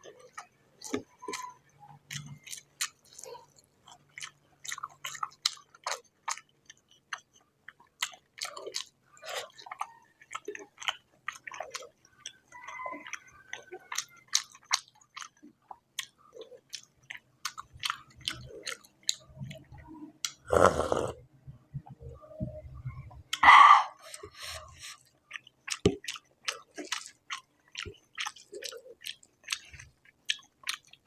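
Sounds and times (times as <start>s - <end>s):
person chewing: 0.0s - 21.2s, 24.0s - 31.0s.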